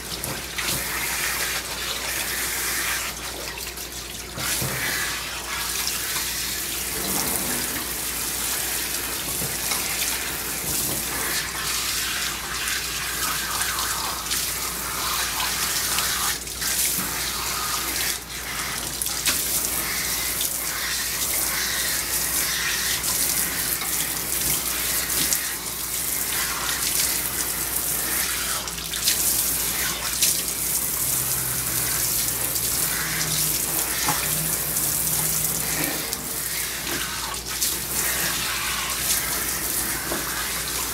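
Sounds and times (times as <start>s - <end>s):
water splashing in tub: 0.0s - 40.9s.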